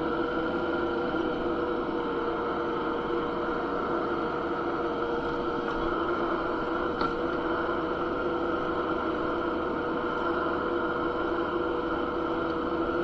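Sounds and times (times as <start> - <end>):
skid steer engine droning: 0.0 - 13.0.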